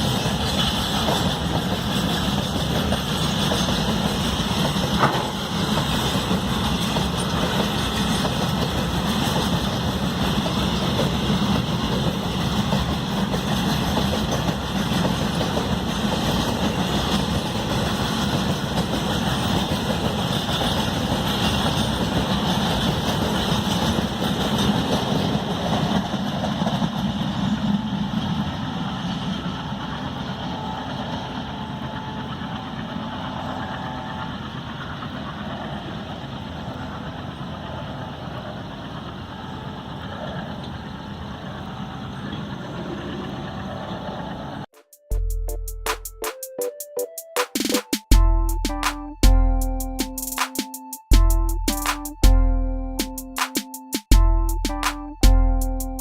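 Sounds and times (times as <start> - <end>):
diesel locomotive engine chugging: 0.0 - 46.3.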